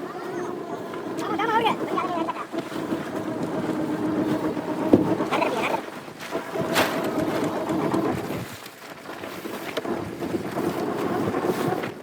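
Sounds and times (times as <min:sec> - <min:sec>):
boat engine running: 0:00.0 - 0:12.0
water noise: 0:00.0 - 0:12.0
wind: 0:00.0 - 0:12.0.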